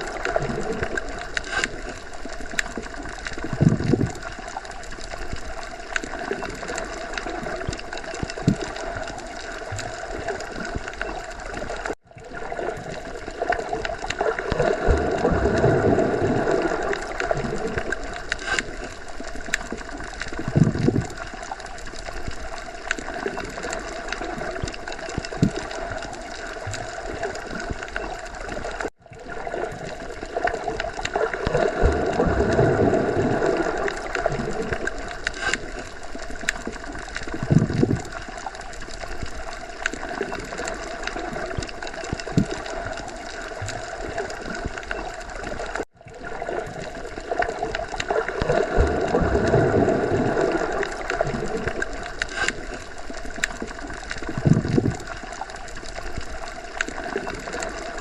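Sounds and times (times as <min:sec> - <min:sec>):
underwater water wash: 0:00.0 - 0:58.0.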